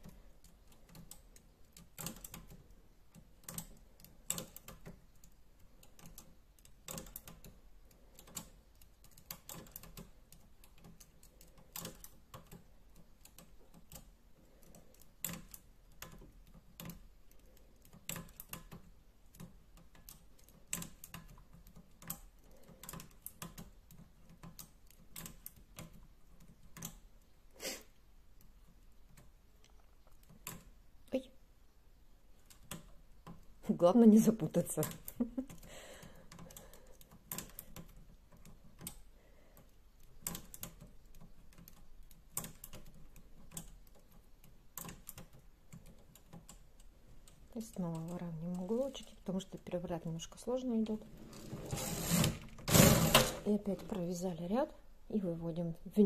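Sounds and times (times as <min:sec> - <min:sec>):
knitting machine needles clicking: 0:00.0 - 0:27.4, 0:28.3 - 0:31.3, 0:32.3 - 0:54.7.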